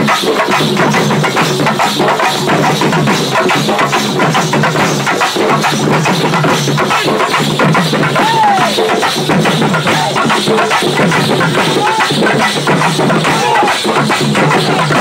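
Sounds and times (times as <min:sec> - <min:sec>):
loud music with fast drumming: 0:00.0 - 0:15.0.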